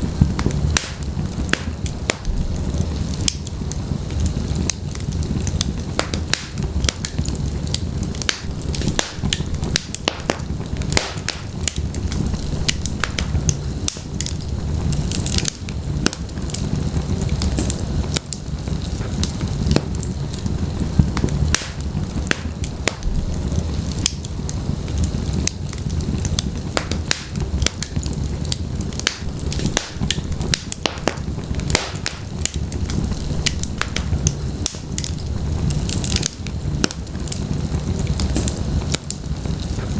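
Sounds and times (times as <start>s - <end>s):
low rumble of flame: 0.0s - 39.9s
wood crackles and pops: 0.0s - 39.9s.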